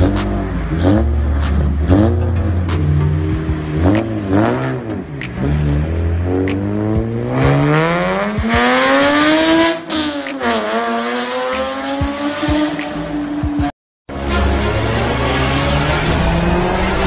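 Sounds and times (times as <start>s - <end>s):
sports car engine revving: 0.0s - 13.7s.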